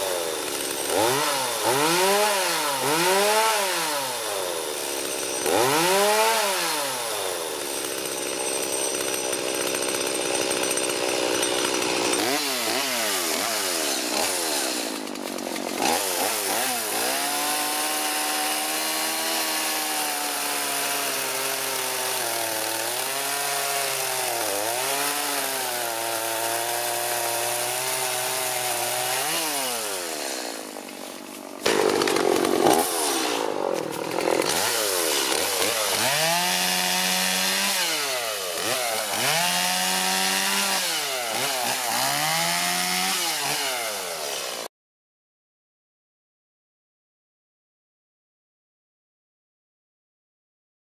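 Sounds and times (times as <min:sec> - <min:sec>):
chainsaw engine revving: 0:00.0 - 0:44.7.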